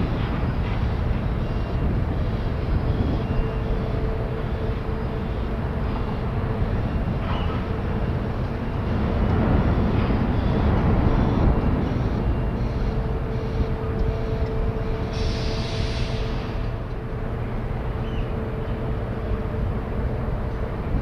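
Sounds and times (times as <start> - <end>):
low rumble of ferry: 0.0 - 21.0.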